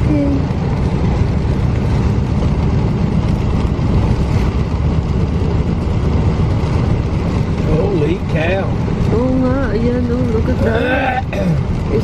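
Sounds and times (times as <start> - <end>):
car road and engine rumble: 0.0 - 12.0
rain and wet tyres hissing: 0.0 - 12.0.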